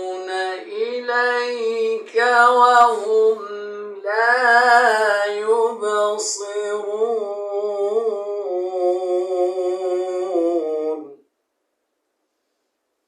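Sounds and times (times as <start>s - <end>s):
person chanting recitation: 0.0s - 11.2s.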